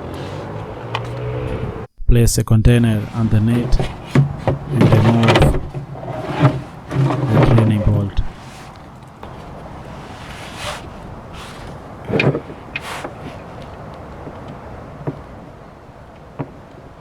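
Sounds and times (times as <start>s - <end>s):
tool scraping rasps: 0.0s - 1.9s, 2.9s - 16.9s.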